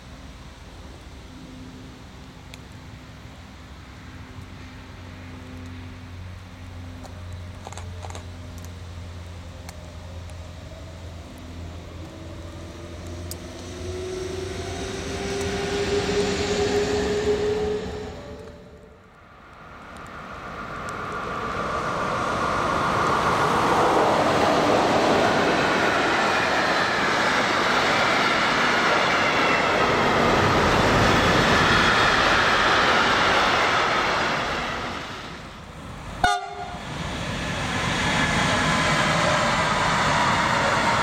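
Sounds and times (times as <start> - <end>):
electric freight train rolling past: 0.0 - 41.0
freight train wheels rumbling on rails: 0.0 - 41.0.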